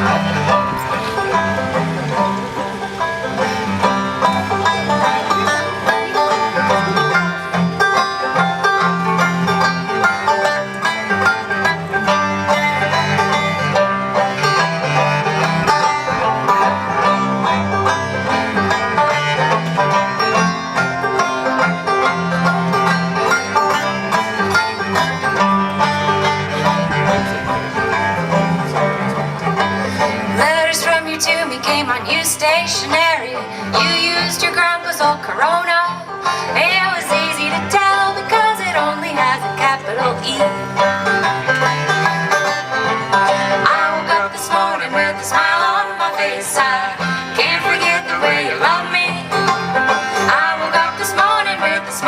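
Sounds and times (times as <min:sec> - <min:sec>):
banjo picking: 0:00.0 - 0:52.0
steady bass accompaniment: 0:00.0 - 0:52.0.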